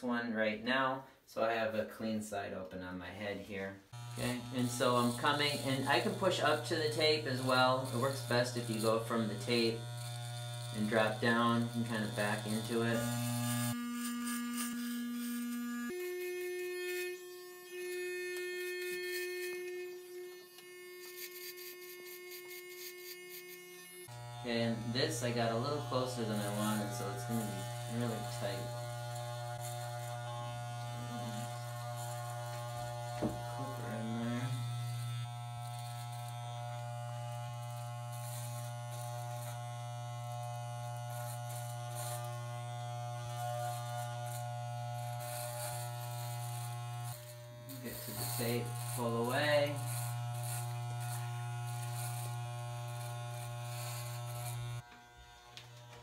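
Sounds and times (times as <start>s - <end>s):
electric hair clippers buzzing: 3.9s - 56.0s.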